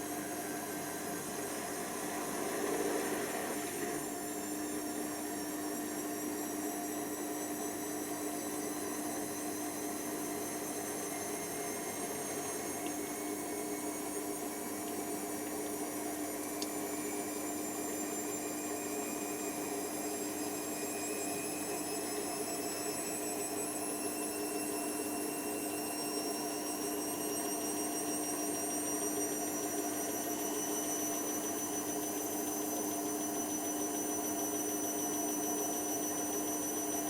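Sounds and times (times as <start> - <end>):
washer dryer drum motor hum: 0.0 - 37.0.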